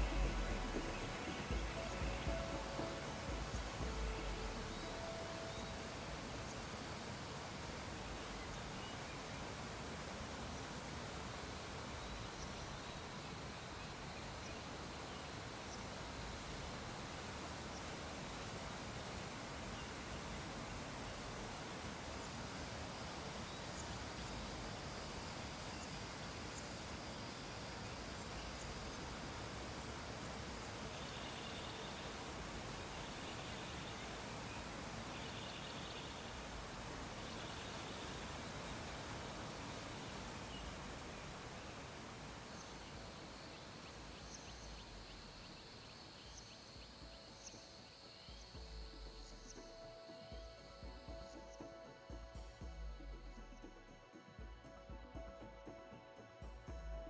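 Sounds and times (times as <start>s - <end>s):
faint high-pitched tones: 0.0s - 56.0s
room noise hiss: 0.0s - 57.0s.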